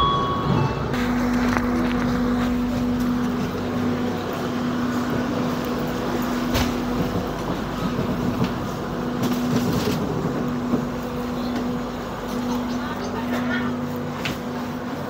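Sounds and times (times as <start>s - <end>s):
train carriage hum: 0.0s - 15.0s
wheels rumbling on rails: 0.0s - 15.0s.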